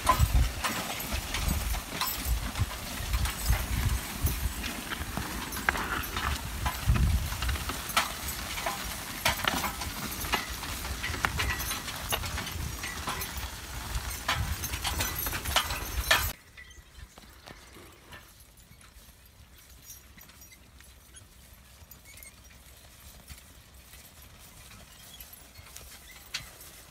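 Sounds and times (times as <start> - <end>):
hooves clopping: 0.0 - 26.9
plow and harness clinking: 0.0 - 26.9.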